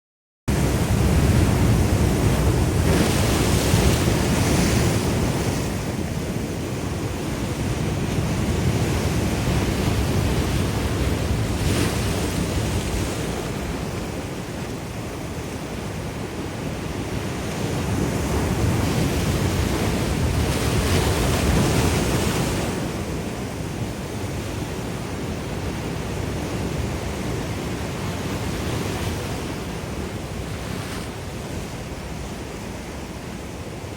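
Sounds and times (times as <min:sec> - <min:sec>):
ocean waves breaking: 0:00.5 - 0:33.9.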